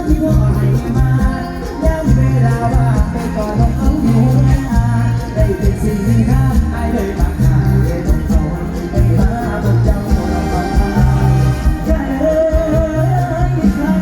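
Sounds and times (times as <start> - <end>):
heavy bass line: 0.0 - 14.0
live band music: 0.0 - 14.0
steady drum beat: 0.0 - 14.0.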